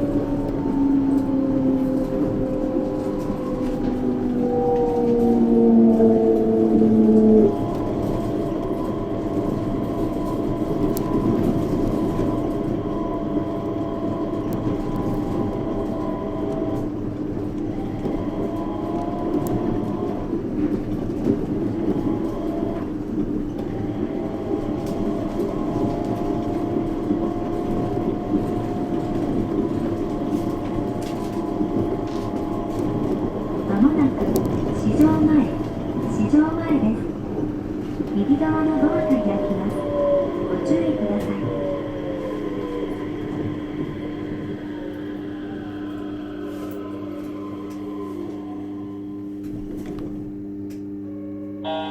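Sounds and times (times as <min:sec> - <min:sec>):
train rolling noise: 0:00.0 - 0:51.9.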